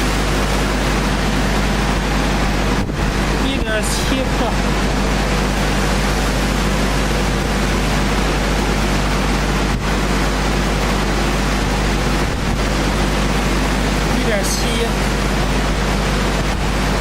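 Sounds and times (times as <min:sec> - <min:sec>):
factory machinery rushing noise: 0:00.0 - 0:17.0
low machinery hum: 0:00.0 - 0:17.0.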